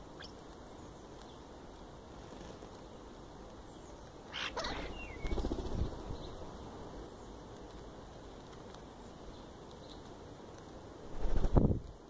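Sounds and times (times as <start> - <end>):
birds rustling in grass: 0.0 - 12.0.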